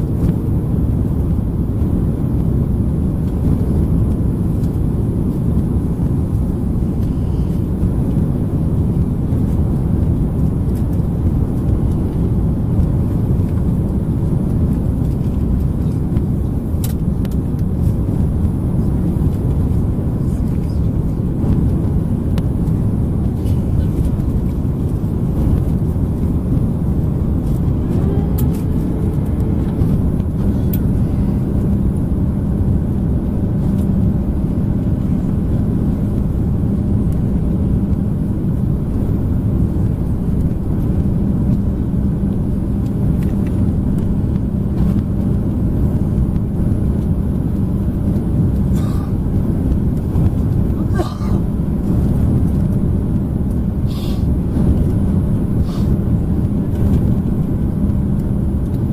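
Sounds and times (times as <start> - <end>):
airplane cabin rumble: 0.0 - 58.9
steady hum: 0.0 - 58.9.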